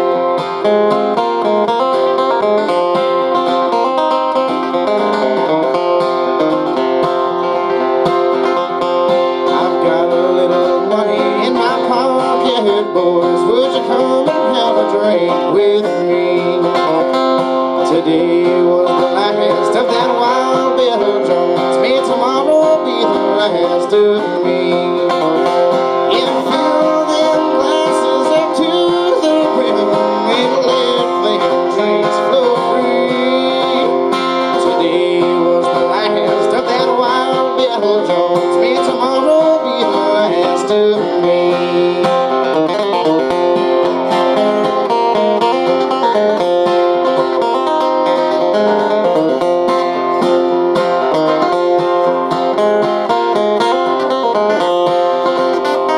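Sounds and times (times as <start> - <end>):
acoustic guitar picking lead lines: 0.0 - 55.9.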